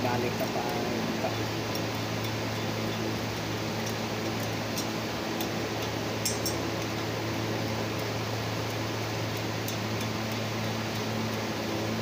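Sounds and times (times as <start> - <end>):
steady fan-like hum: 0.0 - 12.0.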